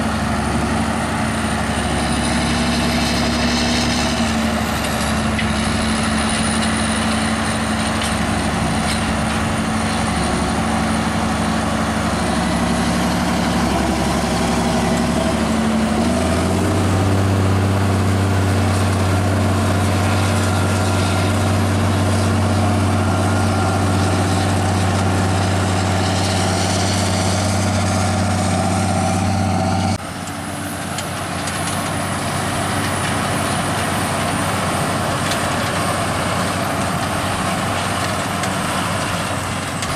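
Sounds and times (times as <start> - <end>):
distant tractor engine: 0.0 - 39.9
tractor diesel engine under load: 0.0 - 39.9.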